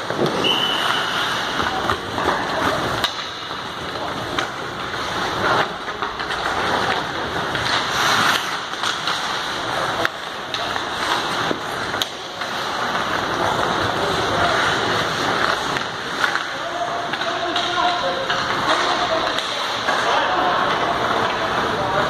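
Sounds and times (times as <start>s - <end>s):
puck clacking: 0.0s - 22.0s
skate blades scraping ice: 0.0s - 22.0s.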